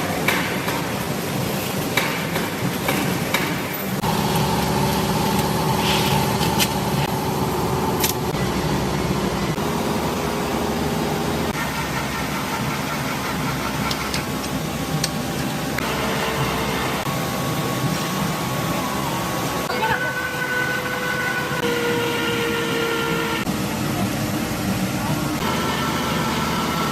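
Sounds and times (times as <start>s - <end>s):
factory machinery humming: 0.0s - 26.9s.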